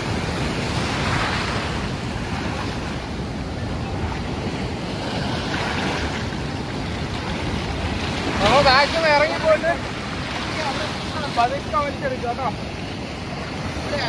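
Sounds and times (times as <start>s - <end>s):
sea waves breaking: 0.0s - 14.0s
wind buffeting microphone: 0.0s - 14.0s.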